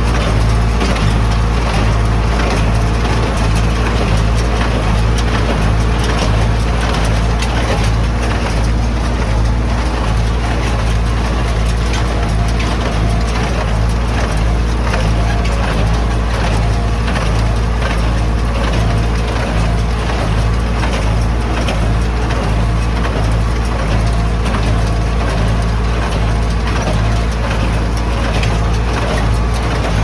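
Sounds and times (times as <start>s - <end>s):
hay baler knocking and rattling: 0.0s - 30.0s
tractor engine running: 0.0s - 30.0s.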